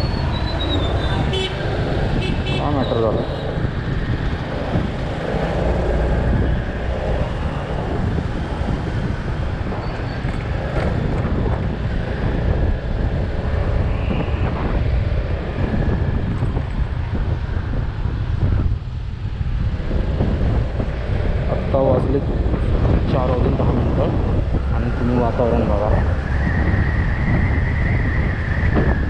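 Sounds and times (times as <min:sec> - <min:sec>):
road traffic: 0:00.0 - 0:29.0
wind buffeting microphone: 0:00.0 - 0:29.0.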